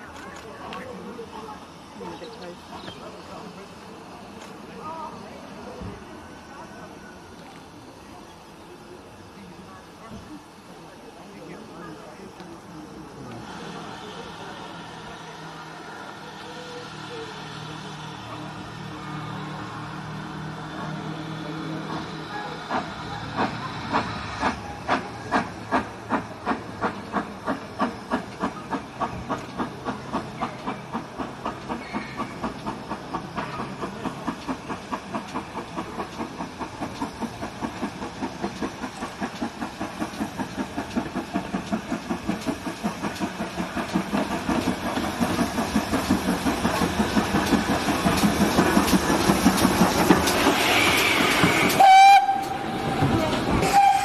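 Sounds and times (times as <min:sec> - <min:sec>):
steam hiss: 0:00.0 - 0:54.0
steam locomotive chuffing: 0:00.0 - 0:54.0.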